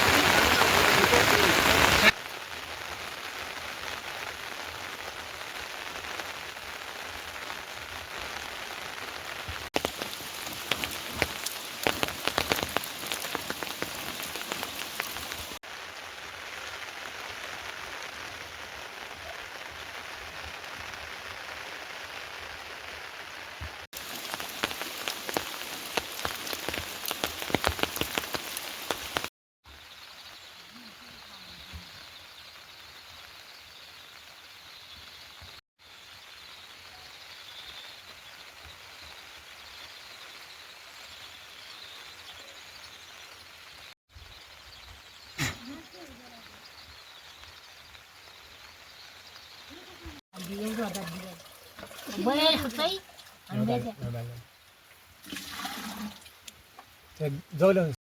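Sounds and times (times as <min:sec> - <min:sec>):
close raindrops ticking: 0:00.0 - 0:58.0
rain falling: 0:00.0 - 0:58.0.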